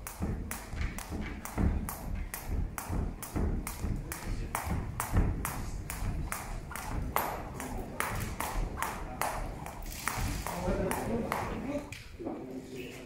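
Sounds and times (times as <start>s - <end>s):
jump rope slapping floor: 0.0s - 12.0s.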